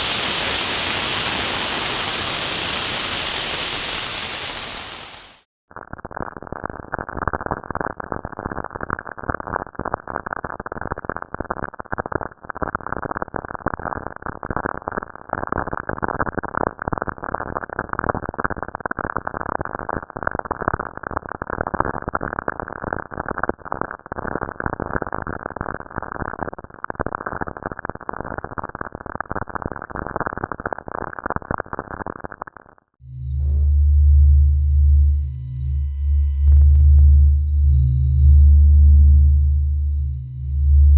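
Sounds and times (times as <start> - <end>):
dense crackling static: 0.0 - 40.9.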